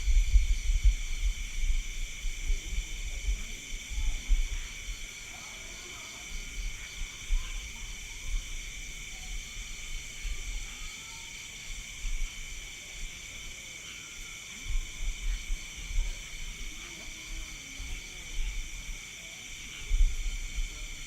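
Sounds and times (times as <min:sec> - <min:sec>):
crickets and insects trilling: 0:00.0 - 0:21.0.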